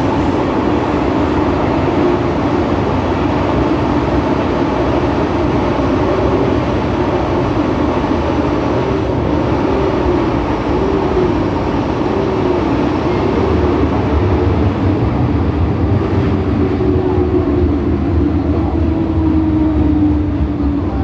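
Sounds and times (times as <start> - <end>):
traction motor whine: 0.0 - 21.0
train wheels rumbling on track: 0.0 - 21.0.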